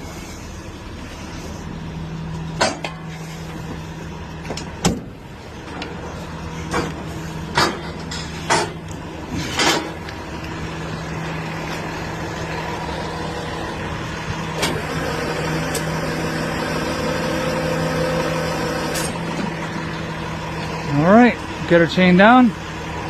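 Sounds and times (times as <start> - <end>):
steady whine: 0.0 - 23.0
truck engine idling: 0.0 - 23.0.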